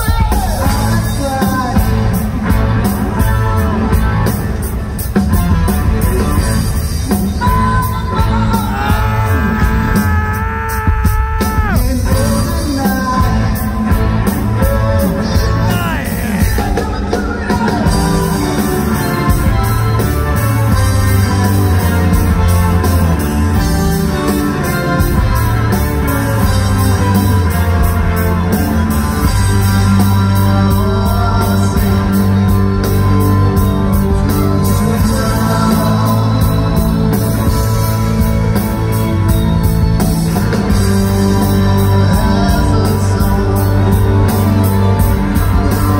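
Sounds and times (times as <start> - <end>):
drums: 0.0 - 45.9
electric guitars: 0.0 - 45.9
keyboards: 0.0 - 45.9
lead singer: 0.0 - 45.9.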